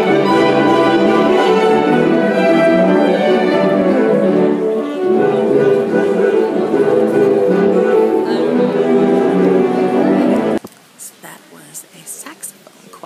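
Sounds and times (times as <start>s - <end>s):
saxophone ensemble playing chords: 0.0s - 10.6s.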